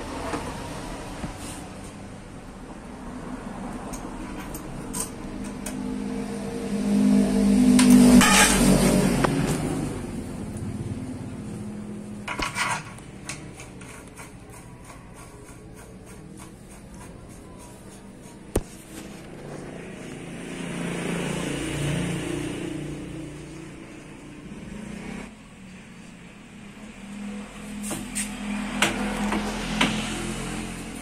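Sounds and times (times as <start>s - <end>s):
passing vehicle: 0.0s - 12.3s, 16.8s - 31.0s.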